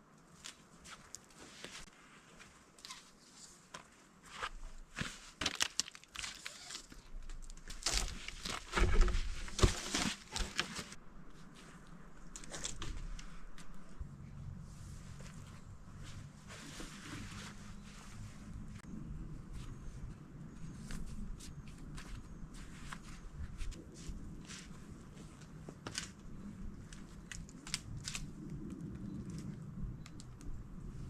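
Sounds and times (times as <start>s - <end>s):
rustling in dry forest litter: 0.3s - 14.0s, 14.6s - 31.0s.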